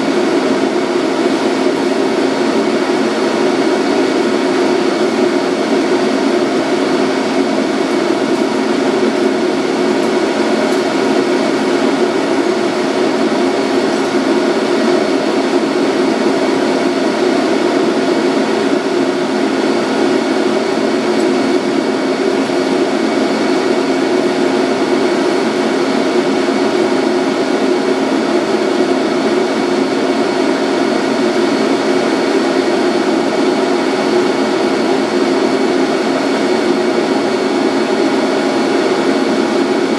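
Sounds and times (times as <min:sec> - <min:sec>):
electrical and ventilation hum: 0:00.0 - 0:39.9.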